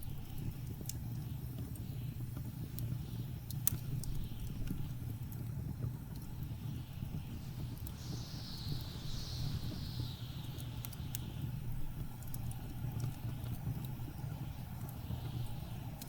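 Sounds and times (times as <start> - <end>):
blizzard wind blowing: 0.0 - 16.0
wood fire crackles: 0.0 - 16.0.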